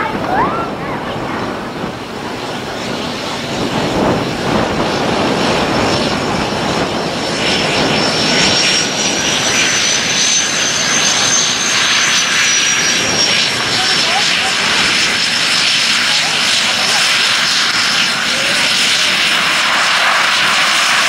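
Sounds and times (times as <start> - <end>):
turboprop engines running: 0.0 - 21.0.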